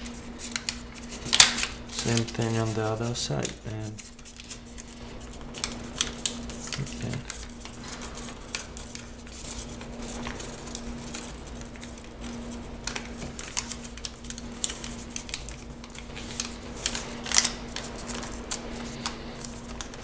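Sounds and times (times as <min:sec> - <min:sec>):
paper being folded and creased: 0:00.0 - 0:20.0
steady low hum: 0:00.0 - 0:20.0.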